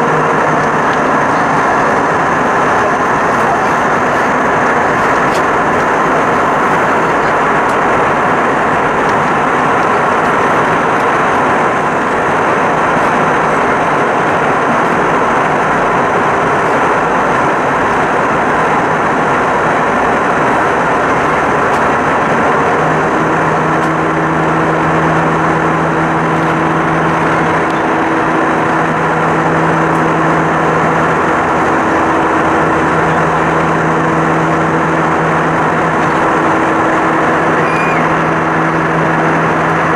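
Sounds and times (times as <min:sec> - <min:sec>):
jet engine cabin noise: 0:00.0 - 0:39.9.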